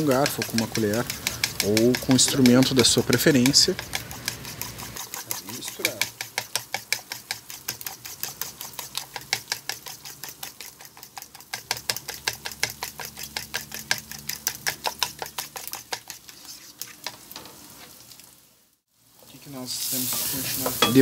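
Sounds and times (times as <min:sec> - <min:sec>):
fork beating eggs in bowl: 0:00.0 - 0:17.3.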